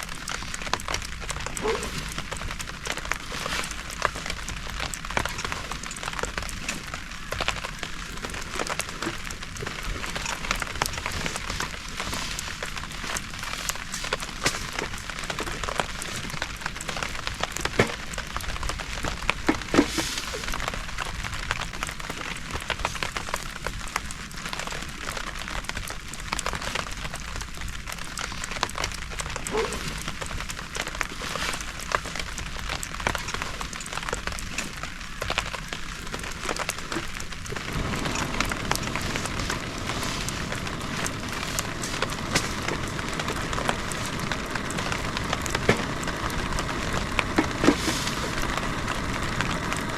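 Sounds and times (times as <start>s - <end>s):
heavy rain falling: 0.0s - 49.9s
raindrops ticking: 0.0s - 49.9s.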